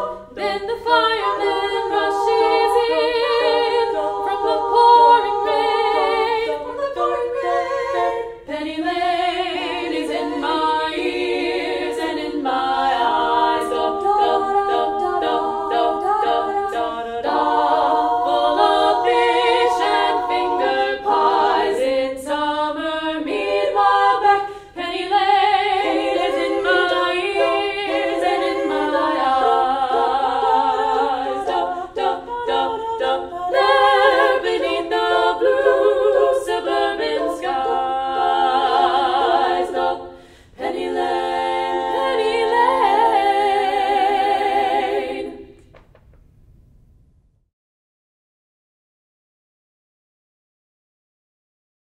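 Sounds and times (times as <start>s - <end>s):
women singing a cappella: 0.0s - 45.8s.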